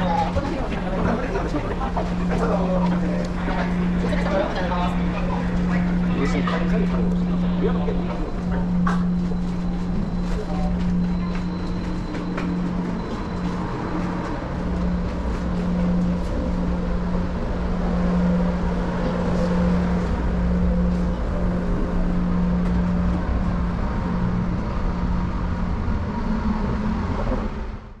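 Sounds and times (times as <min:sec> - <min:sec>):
deep rumble: 0:00.0 - 0:28.0
ship machinery drone: 0:00.0 - 0:28.0.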